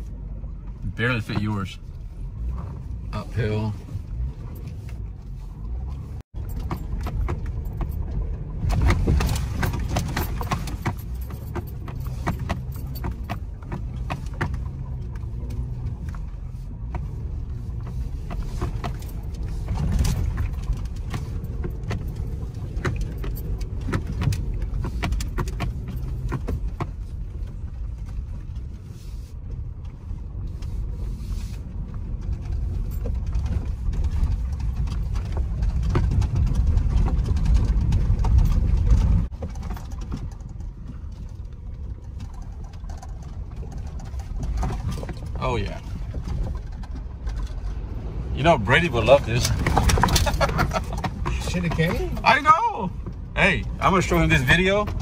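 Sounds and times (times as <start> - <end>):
engine running at low speed: 0.0 - 55.0
rattles and knocks from vehicle body: 0.0 - 55.0.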